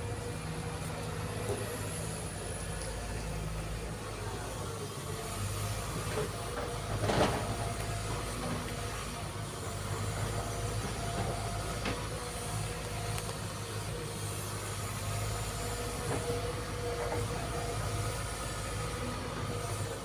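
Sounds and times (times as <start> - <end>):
excavator running: 0.0 - 20.0.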